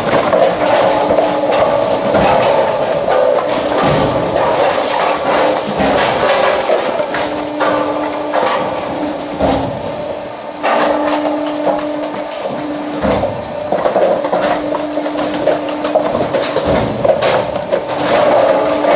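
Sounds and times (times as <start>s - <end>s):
sharp knocks: 0.0s - 9.9s, 13.0s - 18.9s
firewood machine clatter: 0.0s - 18.9s.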